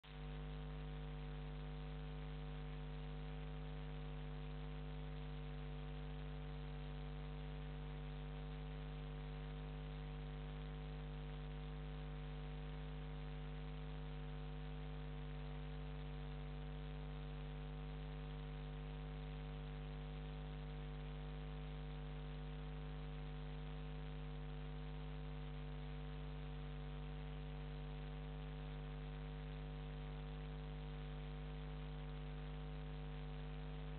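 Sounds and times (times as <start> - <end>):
electrical mains hum: 0.1 - 33.9.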